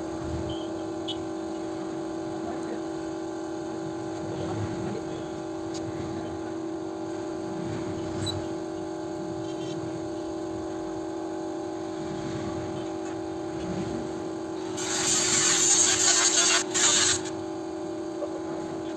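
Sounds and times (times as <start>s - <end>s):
machine hum: 0.0s - 18.9s.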